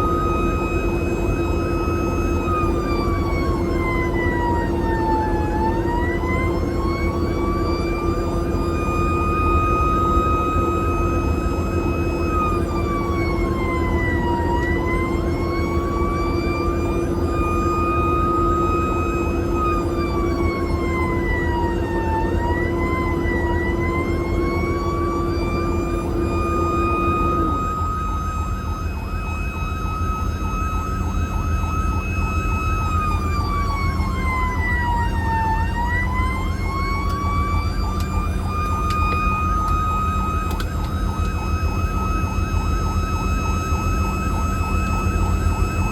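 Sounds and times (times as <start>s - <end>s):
emergency vehicle siren: 0.0s - 45.9s.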